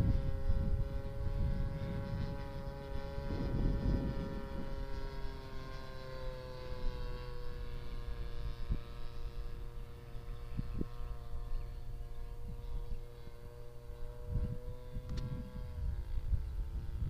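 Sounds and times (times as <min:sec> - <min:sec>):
model aircraft engine droning: 0:00.0 - 0:17.0
wind rumble on microphone: 0:00.0 - 0:17.0.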